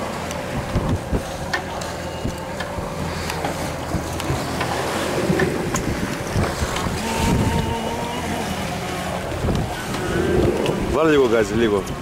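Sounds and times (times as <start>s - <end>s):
boat engine humming: 0.0s - 12.0s
sea wash: 0.0s - 12.0s
wind buffeting microphone: 0.0s - 12.0s.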